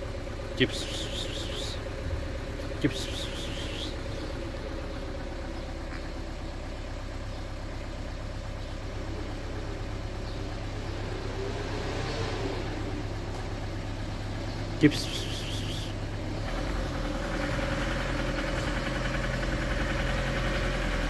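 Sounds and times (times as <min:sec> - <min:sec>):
engine idling hum: 0:00.0 - 0:21.0.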